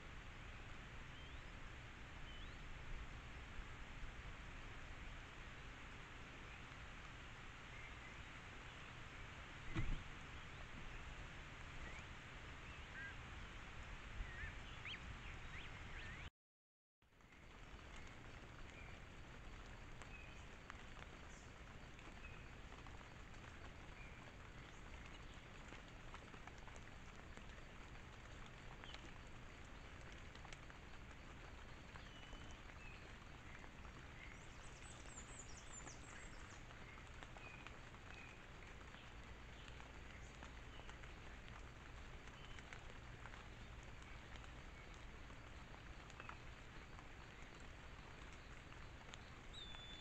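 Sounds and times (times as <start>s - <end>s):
steady hiss with low hum: 0.0s - 16.3s, 17.1s - 50.0s.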